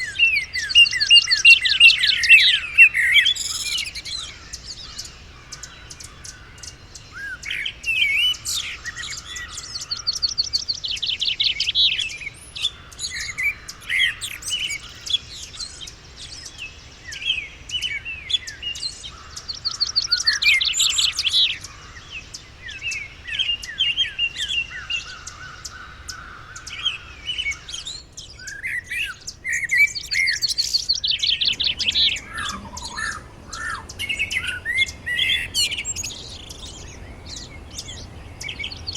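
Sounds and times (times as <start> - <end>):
bird trilling song phrase: 0.0 - 38.9
songbirds chirping and singing: 0.0 - 38.9.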